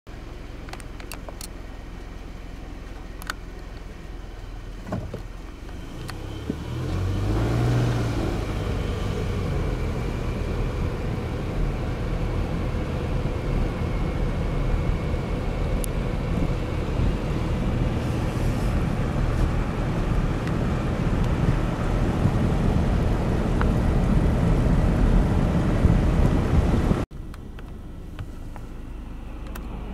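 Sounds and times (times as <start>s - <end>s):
car engine pulling away: 0.1s - 29.9s
road rumble: 0.1s - 29.9s.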